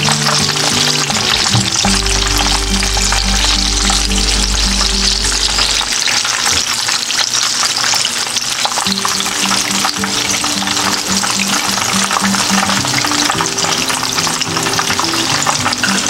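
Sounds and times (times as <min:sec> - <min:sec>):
background music: 0:00.0 - 0:06.2, 0:08.9 - 0:16.0
chicken frying in hot oil: 0:00.0 - 0:16.0.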